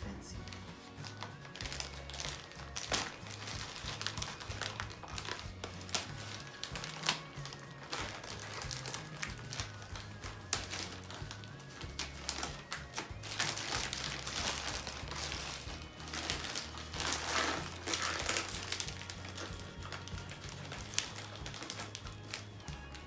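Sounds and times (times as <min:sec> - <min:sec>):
background music with bass line: 0:00.0 - 0:23.0
paper and cardboard crinkling: 0:00.3 - 0:23.0.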